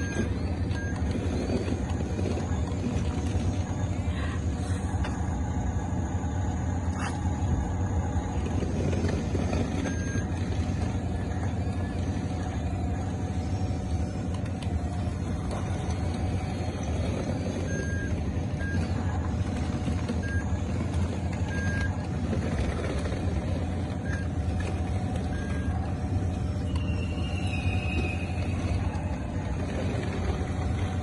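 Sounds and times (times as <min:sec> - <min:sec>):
model bulldozer low drone: 0:00.0 - 0:31.0.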